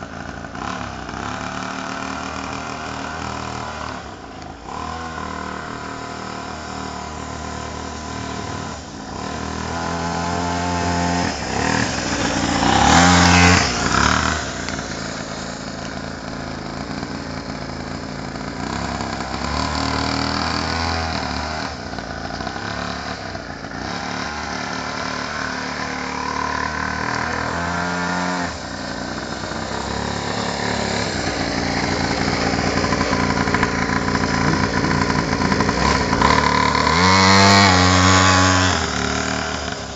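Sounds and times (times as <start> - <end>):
mini motorcycle engine revving: 0.0 - 39.9.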